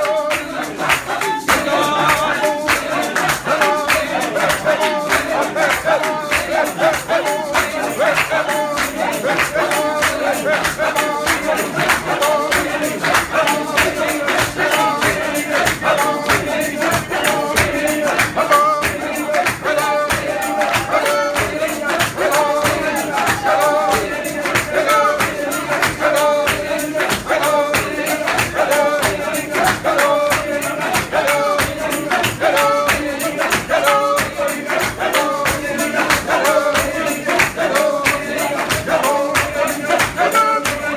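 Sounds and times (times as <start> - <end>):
congregation singing a hymn: 0.0 - 40.9
tambourines beating: 0.0 - 40.9.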